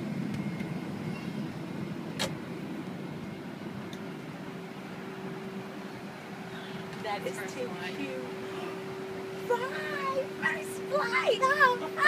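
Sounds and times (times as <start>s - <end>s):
low mechanical hum of machinery: 0.0s - 12.0s.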